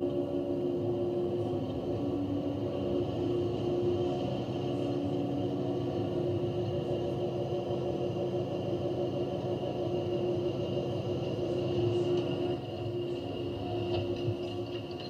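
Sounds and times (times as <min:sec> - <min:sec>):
drive motor humming with high whine: 0:00.0 - 0:15.0.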